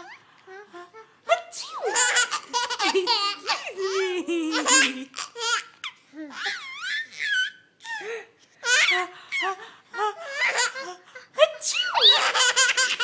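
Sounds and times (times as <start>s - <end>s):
baby babbling and giggling: 0.0s - 13.0s.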